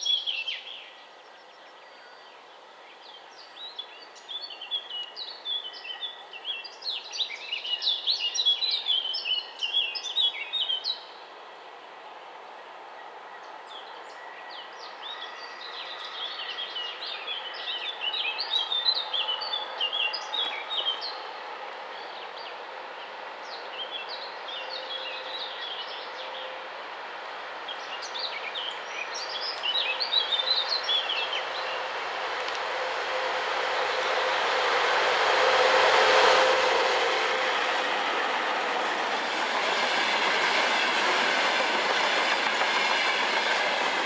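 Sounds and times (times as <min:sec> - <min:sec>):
freight train approaching: 0:00.0 - 0:44.0.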